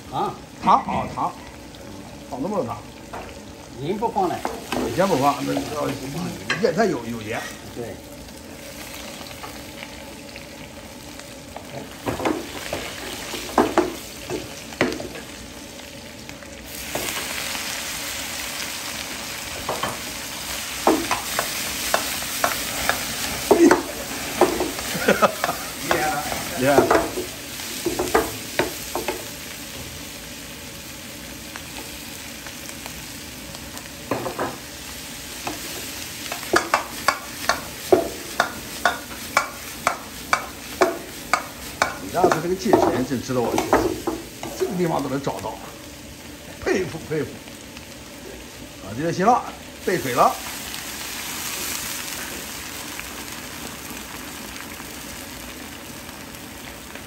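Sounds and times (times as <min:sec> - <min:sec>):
meat sizzling in a wok: 0:00.0 - 0:57.0.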